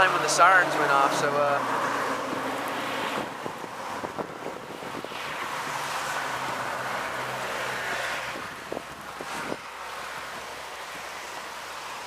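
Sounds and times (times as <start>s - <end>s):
wind gusting over microphone: 0.0s - 11.4s.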